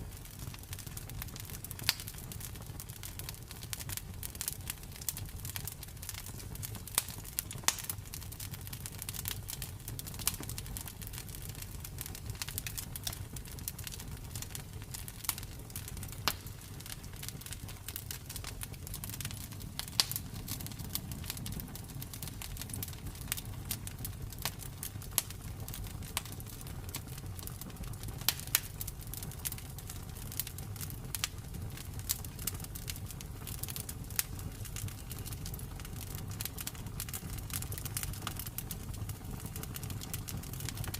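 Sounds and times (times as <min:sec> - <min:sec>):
campfire crackling: 0:00.0 - 0:40.9
fire popping: 0:00.0 - 0:40.9
flames rumbling: 0:00.0 - 0:40.9.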